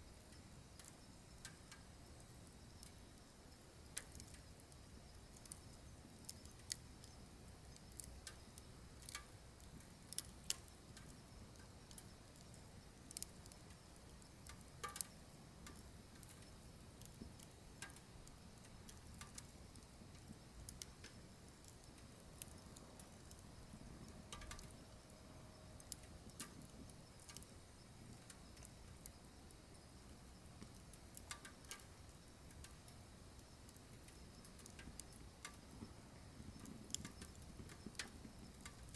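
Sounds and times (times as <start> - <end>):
wood crackling and popping in stove: 0.0 - 38.9.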